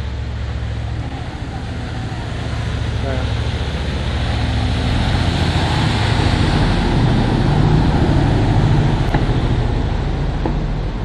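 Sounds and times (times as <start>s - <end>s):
boat engine passing loud: 0.0s - 11.0s
churning wake rushing: 0.0s - 11.0s.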